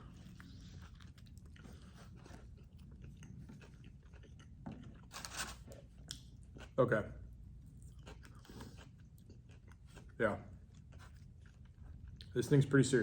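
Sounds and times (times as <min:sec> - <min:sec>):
man chewing: 0:00.0 - 0:06.8, 0:07.6 - 0:12.3.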